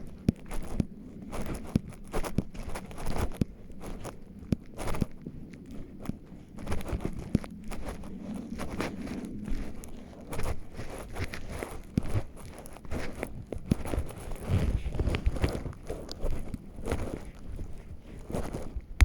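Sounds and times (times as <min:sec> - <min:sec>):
footsteps crunching on forest path: 0:00.0 - 0:19.0.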